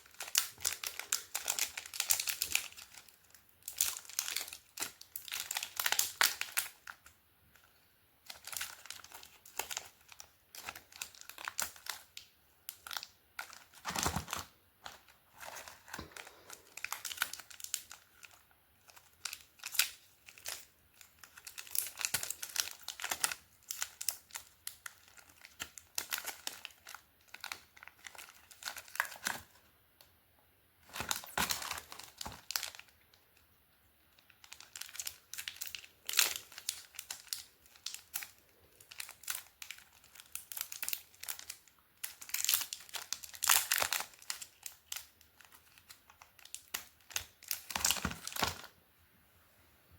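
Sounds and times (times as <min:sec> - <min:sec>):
wrappers crinkling and tearing: 0:00.0 - 0:29.6, 0:30.8 - 0:33.1, 0:34.1 - 0:48.7.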